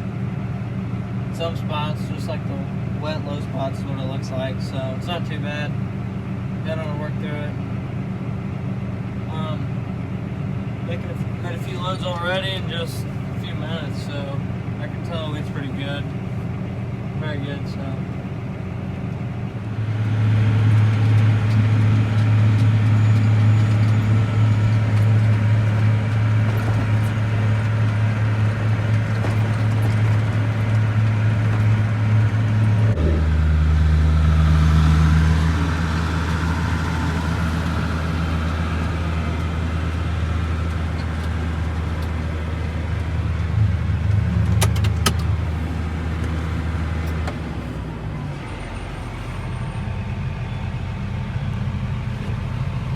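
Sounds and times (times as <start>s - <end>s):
tractor engine running under load: 0.0s - 52.9s.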